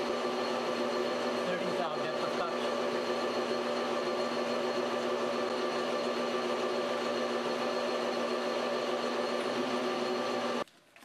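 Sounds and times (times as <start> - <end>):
metal lathe running: 0.0 - 10.6.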